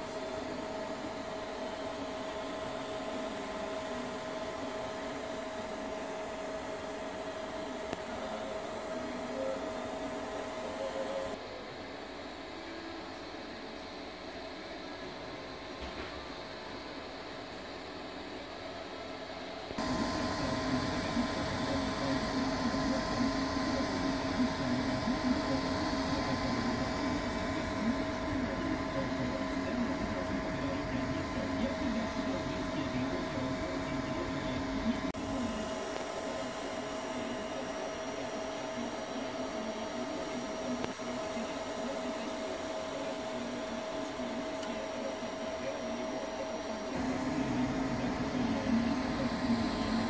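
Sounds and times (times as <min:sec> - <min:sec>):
printer motors whirring: 0:00.0 - 0:11.5, 0:13.3 - 0:50.0.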